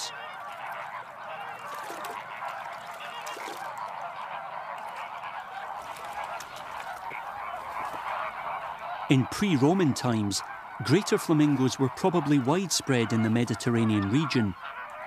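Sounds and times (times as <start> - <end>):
flamingos honking: 0.0 - 15.0.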